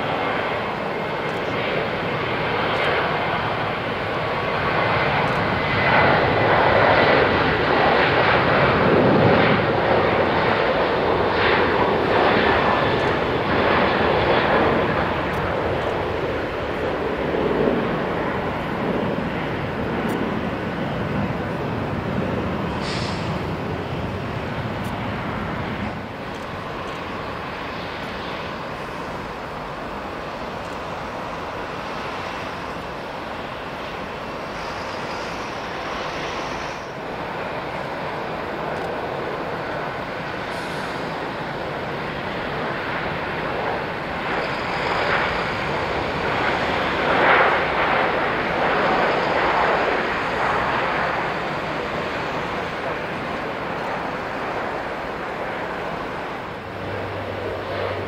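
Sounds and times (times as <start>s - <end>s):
jet airliner engine noise: 0.0s - 58.0s.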